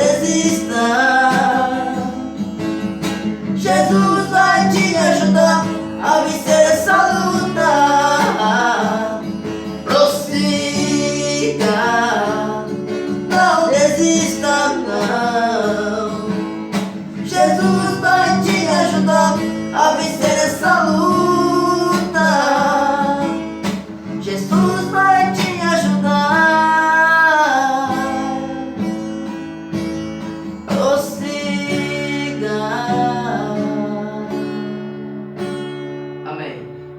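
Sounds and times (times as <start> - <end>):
man singing a hymn: 0.0 - 2.2, 3.6 - 23.5, 24.2 - 28.8, 30.7 - 34.6
acoustic guitar chords: 0.0 - 36.9.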